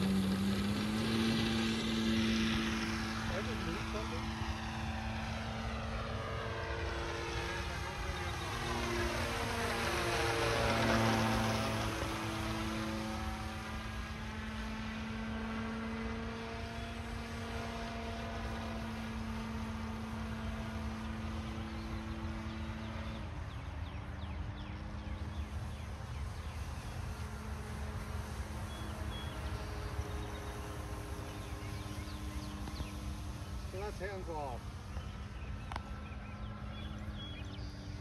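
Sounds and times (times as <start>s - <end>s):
model plane motor droning: 0.0s - 38.0s.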